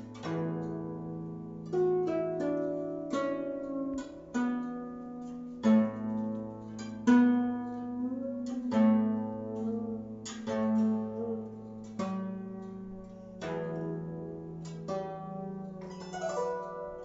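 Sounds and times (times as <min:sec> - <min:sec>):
guzheng plucked notes: 0:00.0 - 0:17.0.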